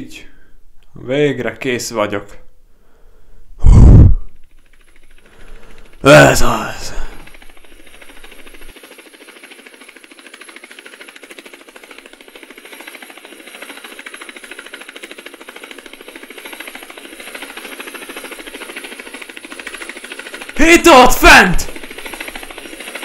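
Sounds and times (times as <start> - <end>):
rapid mechanical rattling: 4.4 - 23.0.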